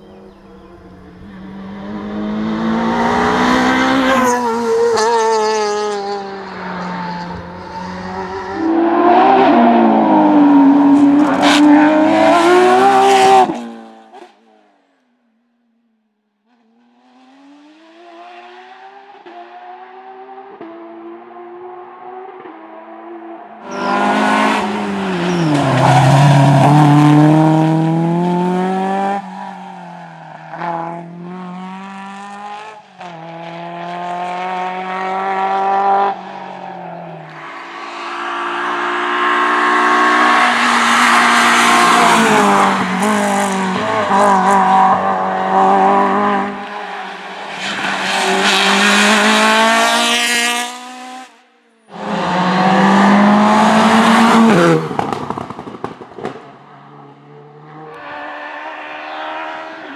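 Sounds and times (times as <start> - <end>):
rally car engines revving: 0.0 - 14.4, 16.5 - 59.9.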